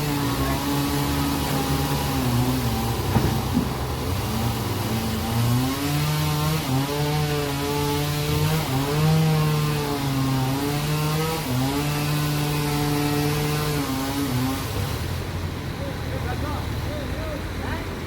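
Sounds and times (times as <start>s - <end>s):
engine saw cutting log: 0.0s - 17.4s.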